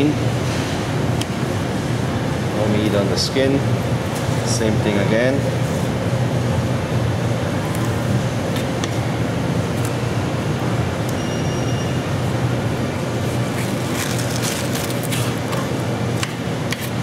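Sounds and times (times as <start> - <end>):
ventilation machinery drone: 0.0 - 17.0.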